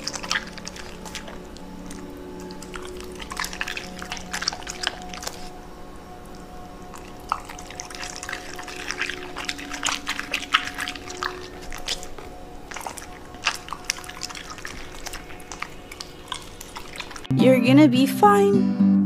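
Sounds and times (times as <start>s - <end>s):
dog chewing vegetable: 0.0s - 17.3s.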